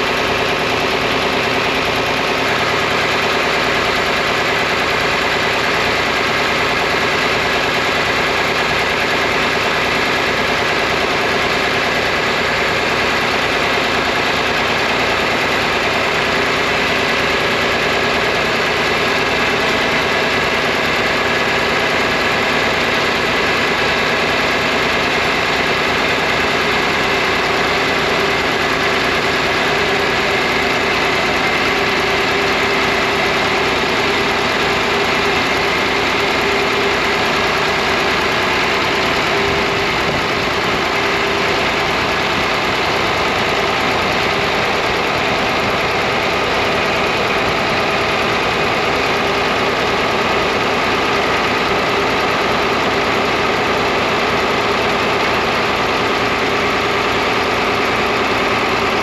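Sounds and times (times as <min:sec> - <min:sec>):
tractor engines idling: 0:00.0 - 0:59.0.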